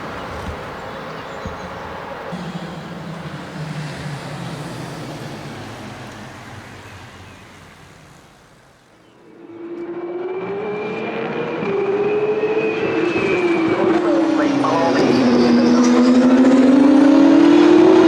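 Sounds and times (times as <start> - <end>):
race car engines: 0.0 - 18.0.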